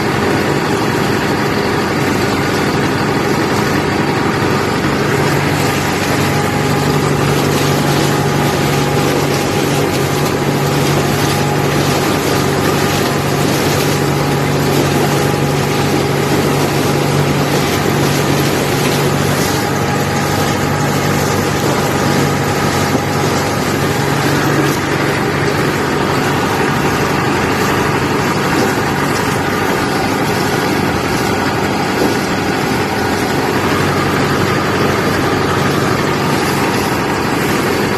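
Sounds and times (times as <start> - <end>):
harvester working: 0.0 - 37.9
tractor diesel engine droning: 0.0 - 37.9.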